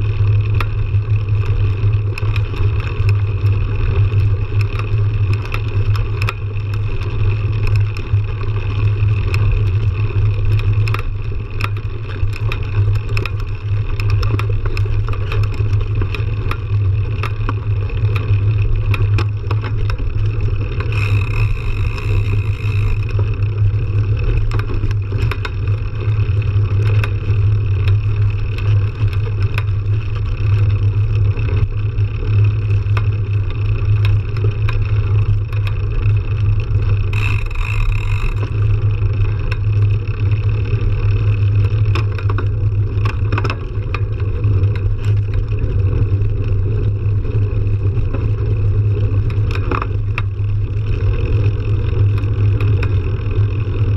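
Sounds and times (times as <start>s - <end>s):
bike tyre rolling drone: 0.0s - 53.9s
gravel clicks and bike rattles: 0.0s - 53.9s.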